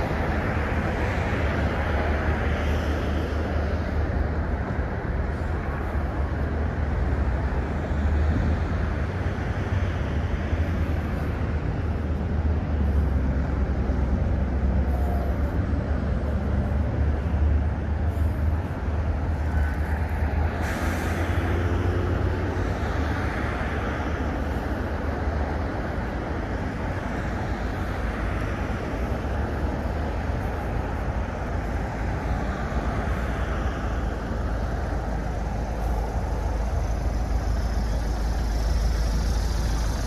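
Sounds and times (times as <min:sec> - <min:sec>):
road traffic rumble: 0:00.0 - 0:40.0.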